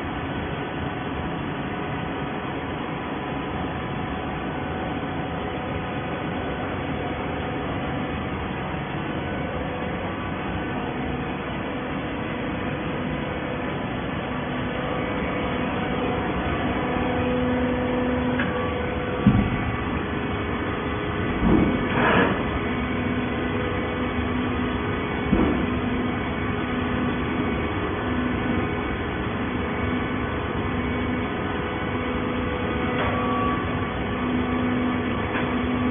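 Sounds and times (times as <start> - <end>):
baler machine drone: 0.0 - 35.9.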